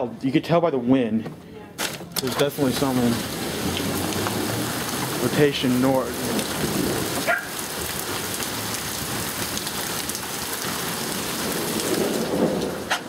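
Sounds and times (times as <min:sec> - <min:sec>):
steady rain: 0:01.8 - 0:13.0.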